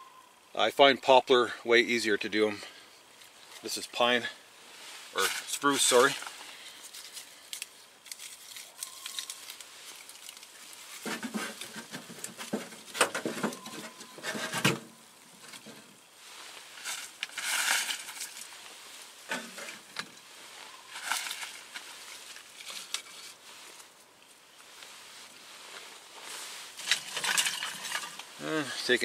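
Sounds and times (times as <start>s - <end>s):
rustling and scraping: 2.6s - 29.0s.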